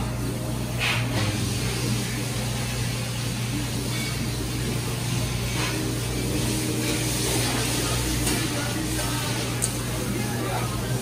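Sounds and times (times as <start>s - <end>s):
low drone of kitchen machinery: 0.0s - 11.0s.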